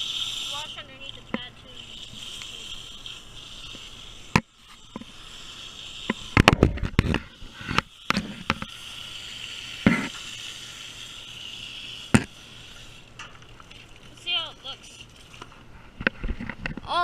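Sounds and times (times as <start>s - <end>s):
garden hose spraying water: 0.0s - 15.8s.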